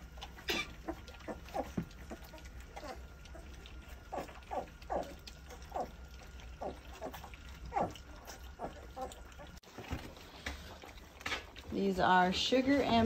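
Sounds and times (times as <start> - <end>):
puppies slurping food: 0.0 - 13.0.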